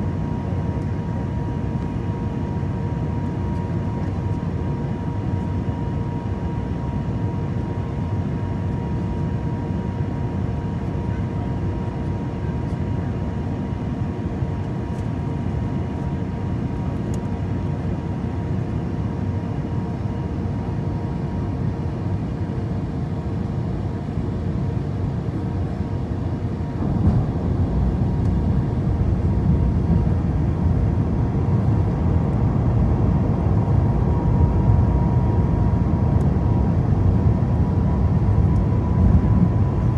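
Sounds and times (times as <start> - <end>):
airflow and engine rush: 0.0 - 39.9
faint hum and whine: 0.0 - 39.9.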